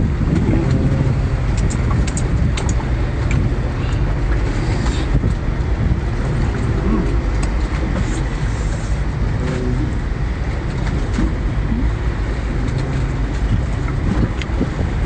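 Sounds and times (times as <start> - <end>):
harbour low rumble: 0.0 - 15.0.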